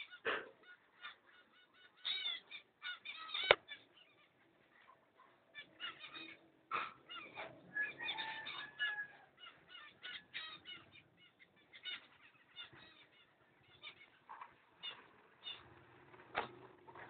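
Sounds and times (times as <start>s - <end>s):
cockatiels chirping: 0.0s - 15.8s.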